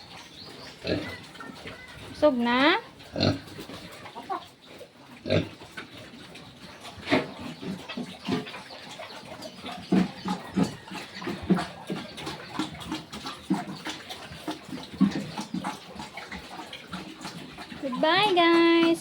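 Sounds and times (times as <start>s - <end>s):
pigs grunting: 0.0s - 19.0s.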